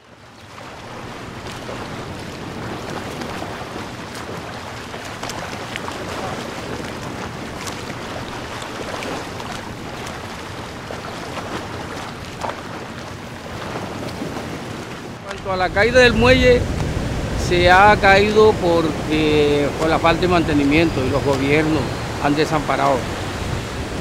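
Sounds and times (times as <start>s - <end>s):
surf washing around pier pilings: 0.0s - 24.0s
wind buffeting microphone: 0.5s - 24.0s.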